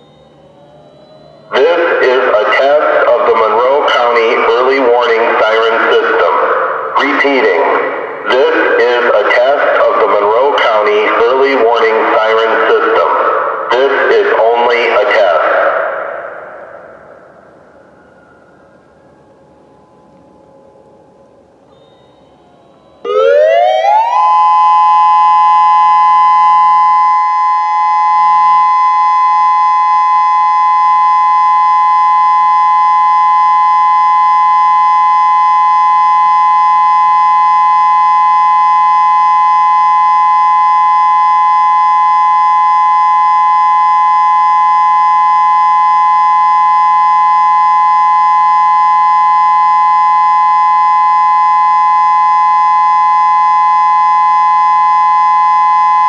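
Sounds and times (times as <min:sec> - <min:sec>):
electronic tornado siren: 0:00.0 - 0:56.0.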